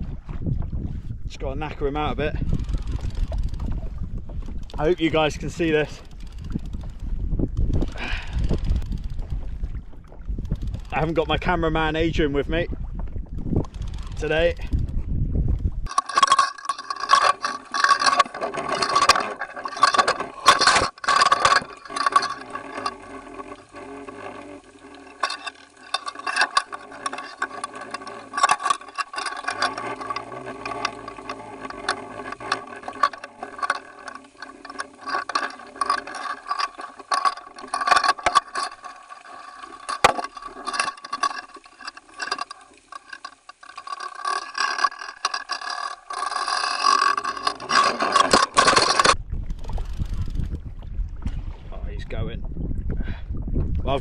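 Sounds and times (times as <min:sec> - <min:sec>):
steady underwater hum: 0:00.0 - 0:53.6
camera rattling and clicking: 0:01.7 - 0:50.6.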